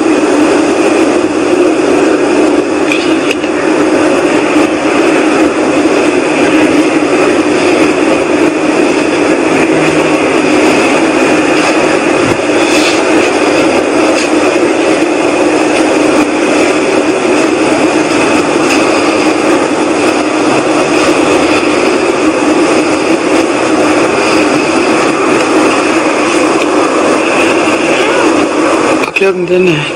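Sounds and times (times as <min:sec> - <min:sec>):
whooshing rumble from the sky: 0:00.0 - 0:29.3.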